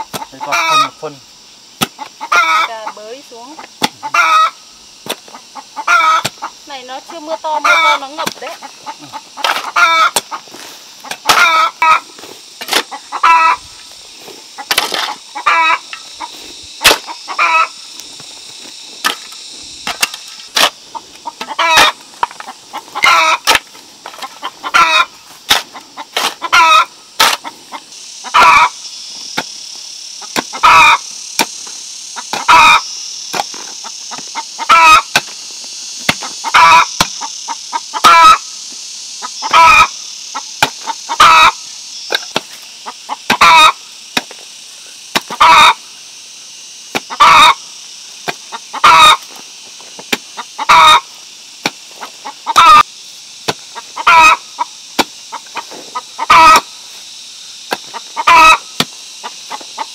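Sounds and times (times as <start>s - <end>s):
chickens clucking: 0.0s - 44.3s, 44.9s - 46.0s, 46.9s - 59.9s
steady high hiss: 0.0s - 59.9s.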